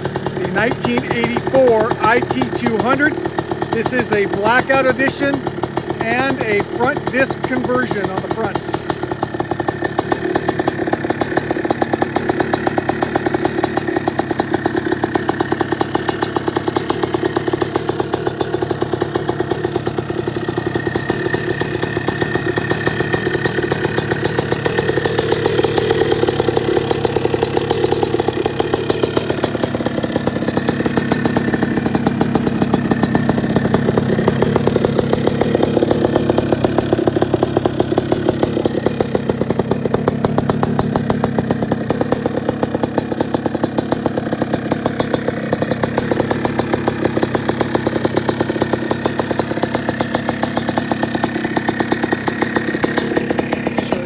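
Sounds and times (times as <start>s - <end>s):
two-stroke engine idling: 0.0s - 54.0s.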